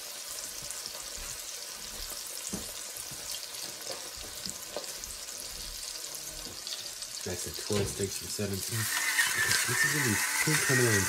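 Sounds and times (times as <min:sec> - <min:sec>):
steaks sizzling in a pan: 0:00.0 - 0:11.0.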